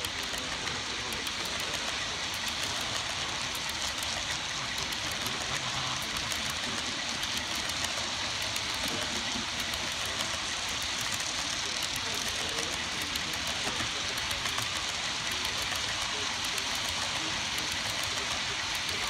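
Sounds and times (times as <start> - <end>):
model train wheels whirring: 0.0 - 19.0.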